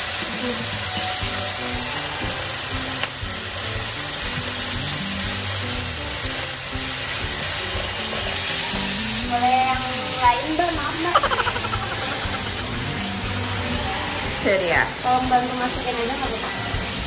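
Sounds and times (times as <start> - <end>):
background music: 0.0 - 17.0
food sizzling in hot oil: 0.0 - 17.0.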